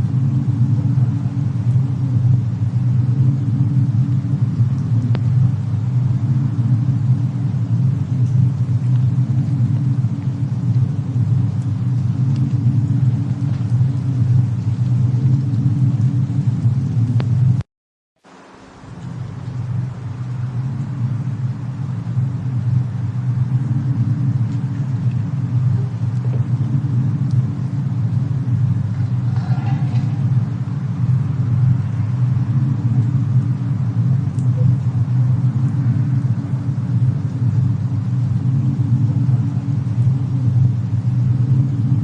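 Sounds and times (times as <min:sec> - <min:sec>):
faint crackles: 0:00.0 - 0:17.6, 0:18.2 - 0:42.0
snowstorm rumble: 0:00.0 - 0:17.6, 0:18.2 - 0:42.0.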